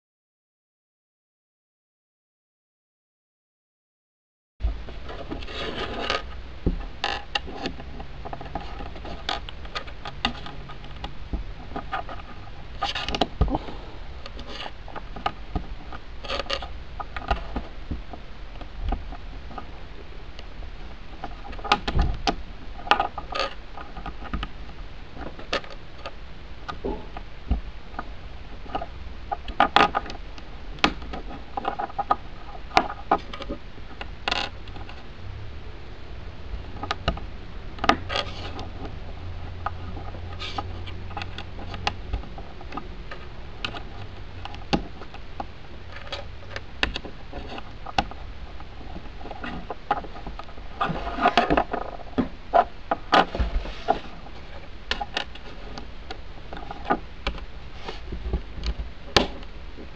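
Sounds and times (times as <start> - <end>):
low steady hum: 4.6 - 59.9.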